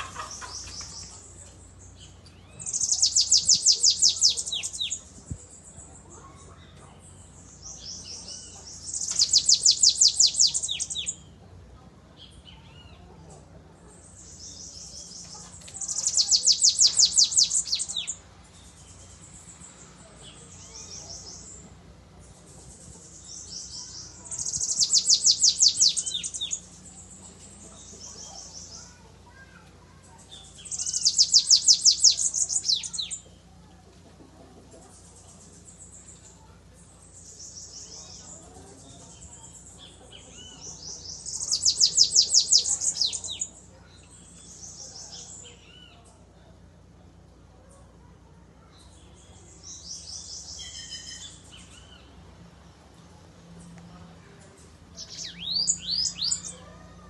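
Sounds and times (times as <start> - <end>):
bird singing trilled phrases: 0.1 - 11.4, 13.9 - 33.4, 34.9 - 46.2, 48.6 - 52.2, 54.5 - 57.0
soft bird chirps: 0.1 - 11.5, 12.1 - 33.5, 34.6 - 46.5, 53.6 - 56.8.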